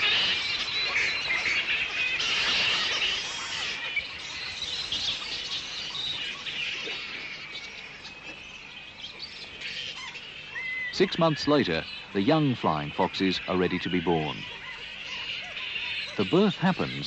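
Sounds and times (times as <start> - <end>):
flying foxes chattering calls: 0.0 - 17.0.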